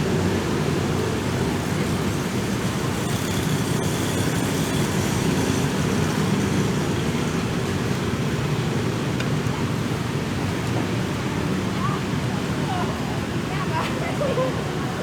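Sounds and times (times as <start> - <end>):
rumbling street stall ambience: 0.0 - 15.0.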